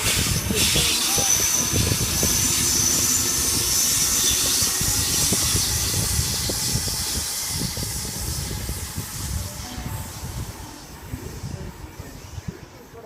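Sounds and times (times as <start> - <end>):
high electric whine: 0.0 - 12.7
train wheels rumbling on rail: 0.0 - 13.0.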